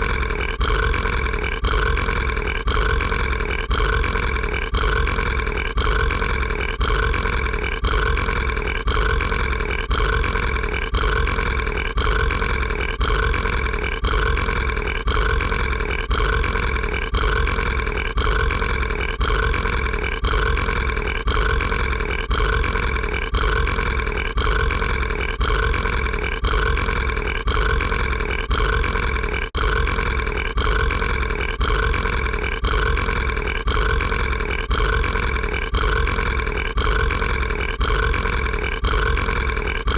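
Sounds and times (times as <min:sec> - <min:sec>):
cartoon burp: 0:00.0 - 0:39.9.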